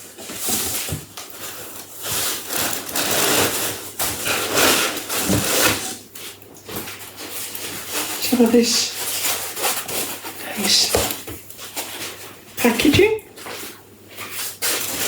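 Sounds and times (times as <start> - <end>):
packaging rubbing and scraping: 0.0 - 12.8, 13.4 - 15.0.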